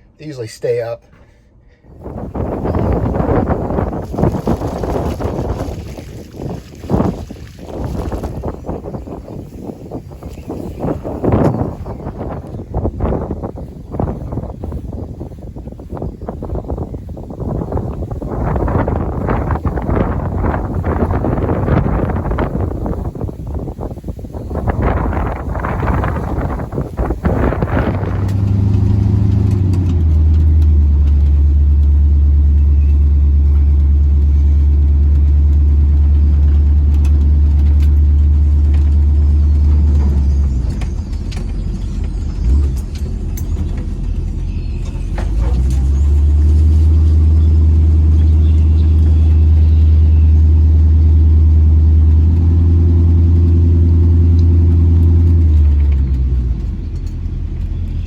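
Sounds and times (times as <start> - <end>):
vehicle engine running under load: 1.9 - 58.0.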